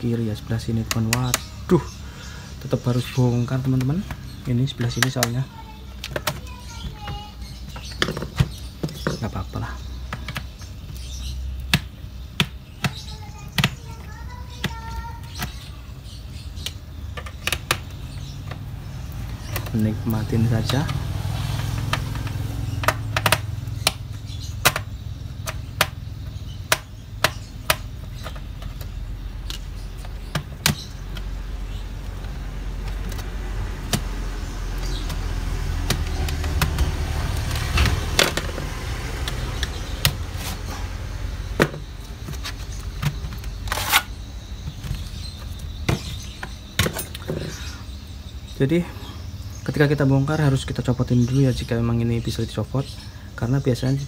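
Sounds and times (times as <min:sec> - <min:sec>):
background traffic rumble: 0:00.0 - 0:54.0.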